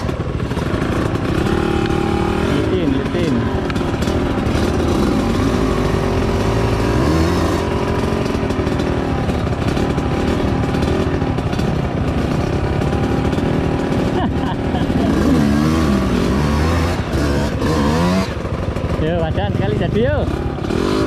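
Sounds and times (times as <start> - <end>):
small motorcycle engine revving: 0.0 - 21.0.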